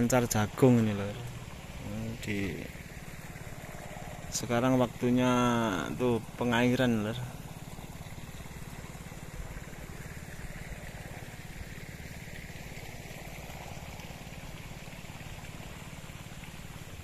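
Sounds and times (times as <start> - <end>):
water pump engine chugging: 0.0 - 17.0.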